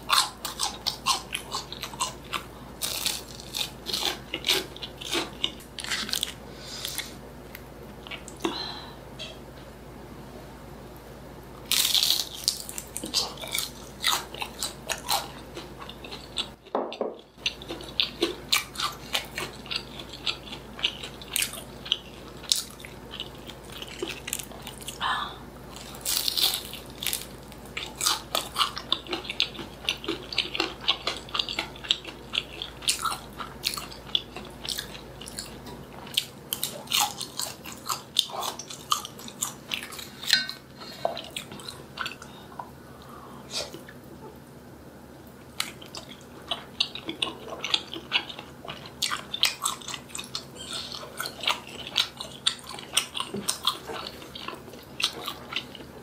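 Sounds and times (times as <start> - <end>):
person chewing food: 0.0 - 9.4, 11.6 - 44.4, 45.4 - 56.0.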